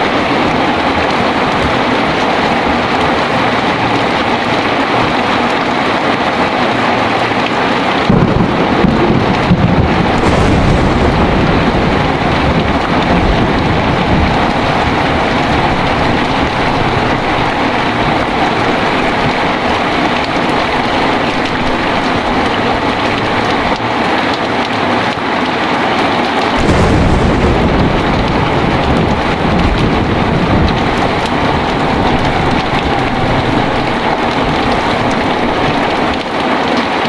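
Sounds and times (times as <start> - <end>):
thunder rumbling: 0.0 - 36.6
heavy rain: 0.0 - 37.0.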